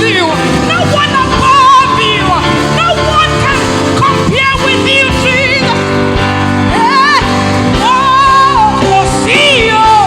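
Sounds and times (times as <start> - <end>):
band accompaniment: 0.0 - 10.0
woman singing with vibrato: 0.0 - 10.0.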